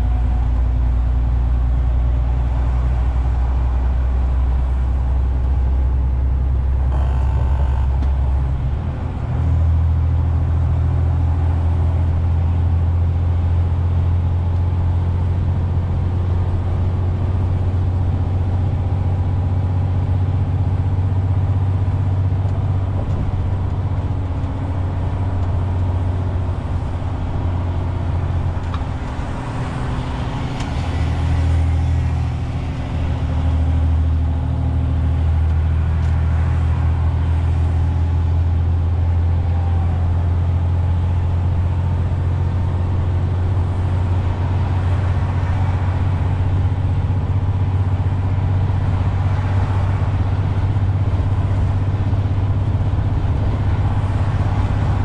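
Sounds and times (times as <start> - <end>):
diesel truck engine drone: 0.0 - 55.0
tyre and road noise: 0.0 - 55.0.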